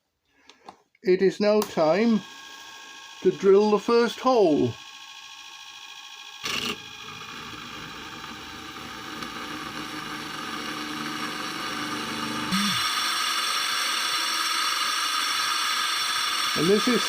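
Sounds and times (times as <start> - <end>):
drill press cutting steel: 1.6 - 17.0.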